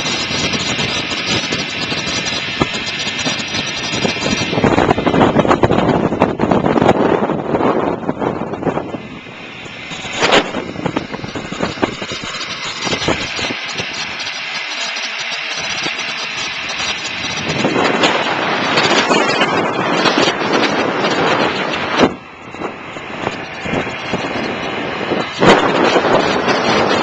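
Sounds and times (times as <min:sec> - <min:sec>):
motor scooter running: 0:00.0 - 0:27.0
wind rushing over microphone: 0:00.0 - 0:27.0.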